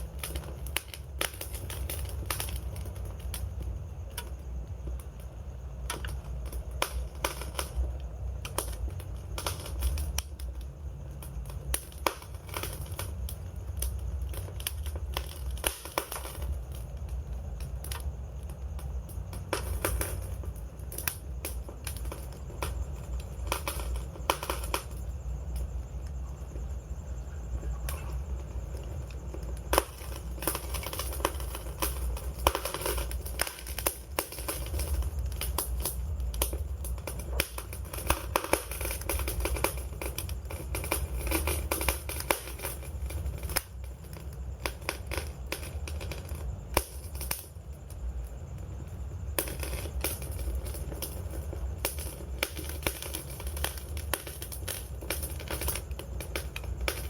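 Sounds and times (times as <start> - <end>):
low steady rumble: 0.0 - 57.0
wood fire crackling: 0.0 - 57.0.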